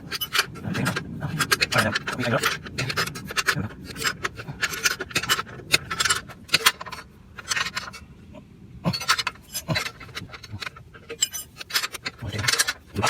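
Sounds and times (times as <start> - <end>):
wrench clicking and scraping metal: 0.0 - 8.1, 8.9 - 13.0.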